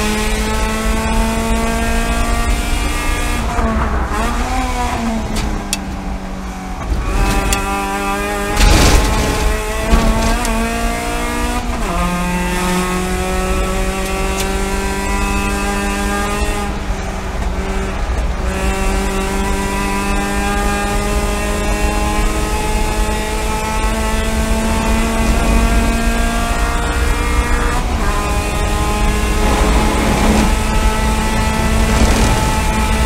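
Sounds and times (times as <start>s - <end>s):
race car engine at full throttle: 0.0s - 33.0s
road and wind noise: 0.0s - 33.0s.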